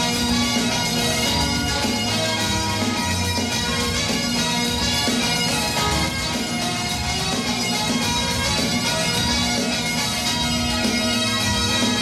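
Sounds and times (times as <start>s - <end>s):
bagpipes playing a tune: 0.0s - 12.0s.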